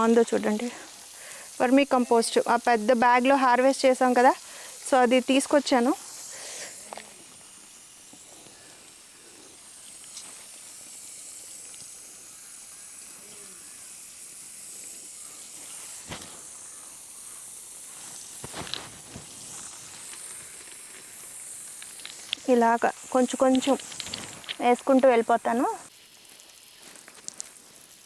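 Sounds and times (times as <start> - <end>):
high-pitched outdoor hiss: 0.0 - 28.0.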